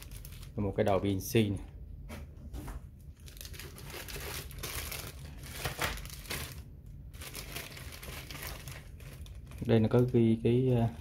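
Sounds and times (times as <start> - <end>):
plastic bags crinkling: 0.0 - 1.2, 3.1 - 11.0.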